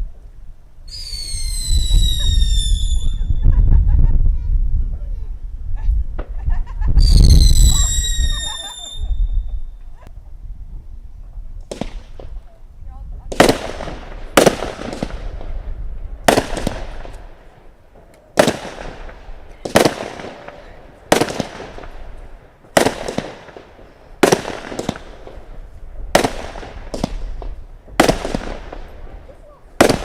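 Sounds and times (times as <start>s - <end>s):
firework bangs: 0.9s - 3.9s, 6.1s - 9.8s, 11.7s - 12.5s, 13.2s - 30.0s.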